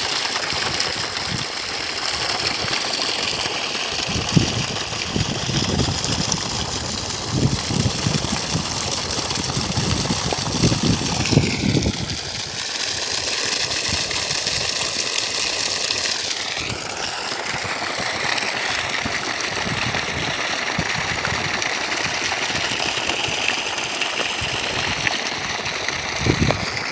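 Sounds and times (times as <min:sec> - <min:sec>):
water gushing from pipe: 0:00.0 - 0:26.9
water splashing on muddy ground: 0:00.0 - 0:26.9.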